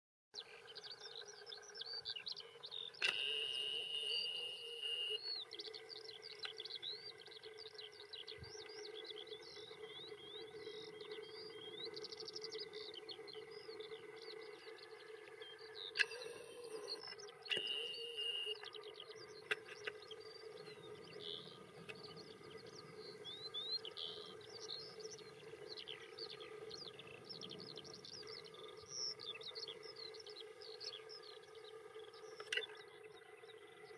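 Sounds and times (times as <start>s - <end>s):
songbirds chirping and trilling: 0.4s - 33.9s
steady low hum: 0.4s - 33.9s.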